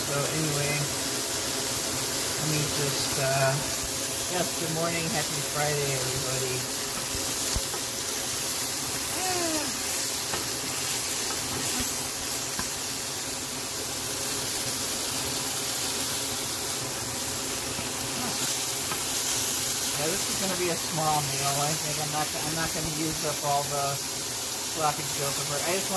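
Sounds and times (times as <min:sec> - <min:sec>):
meat sizzling in a frying pan: 0:00.0 - 0:25.9.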